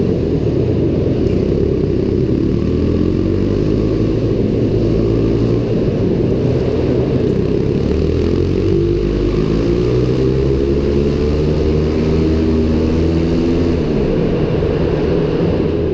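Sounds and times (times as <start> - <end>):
pit bike engine revving: 0.0 - 14.3.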